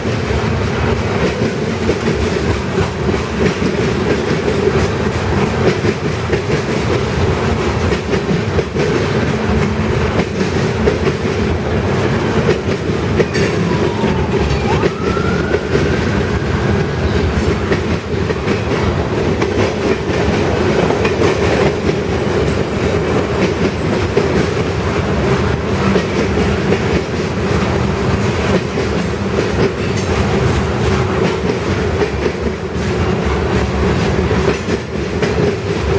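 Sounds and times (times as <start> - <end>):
freight train wheels clicking over rails: 0.0 - 35.9.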